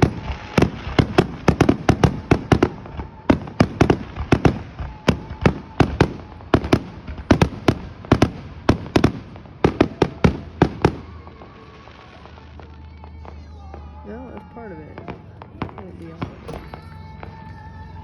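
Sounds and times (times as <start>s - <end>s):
fireworks banging: 0.0s - 18.0s.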